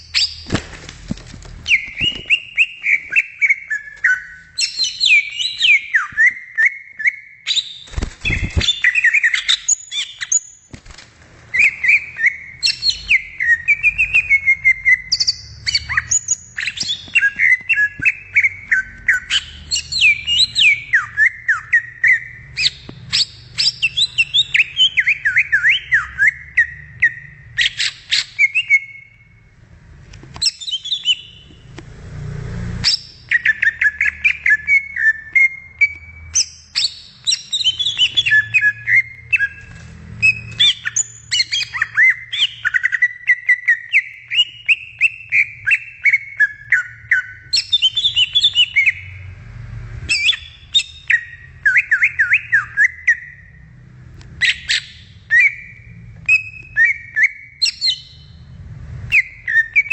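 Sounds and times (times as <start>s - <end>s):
bird singing chirps and whistles: 0.0s - 0.6s, 1.6s - 10.7s, 11.5s - 29.4s, 30.4s - 31.6s, 32.8s - 49.2s, 50.1s - 53.6s, 54.4s - 58.4s, 59.1s - 59.9s.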